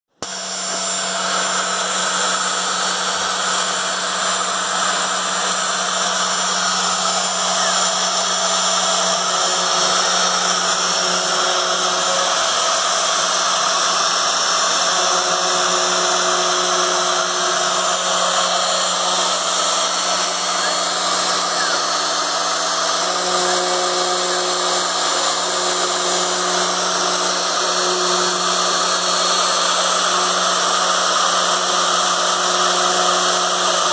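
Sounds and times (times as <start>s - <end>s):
machine spindle motor whine: 0.1s - 33.9s.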